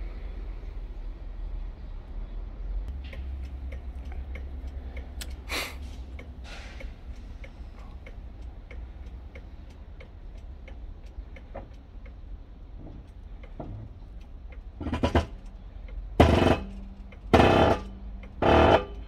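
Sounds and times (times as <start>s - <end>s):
steady mechanical ticking: 2.8s - 19.0s.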